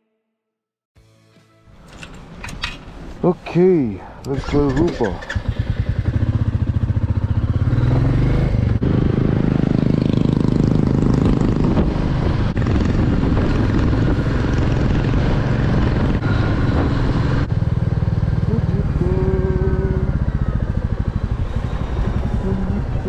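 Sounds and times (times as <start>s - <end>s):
motorcycle engine accelerating: 4.3s - 23.0s.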